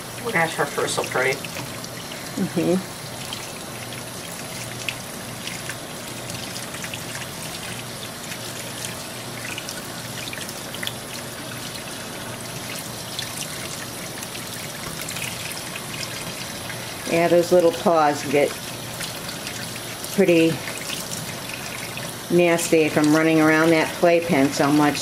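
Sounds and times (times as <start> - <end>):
faucet running into metal sink: 0.0 - 25.0
water splashes and drips: 1.3 - 25.0.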